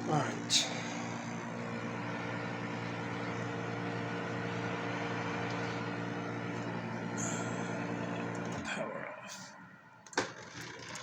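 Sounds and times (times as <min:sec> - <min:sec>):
compressor hum: 0:00.0 - 0:11.0.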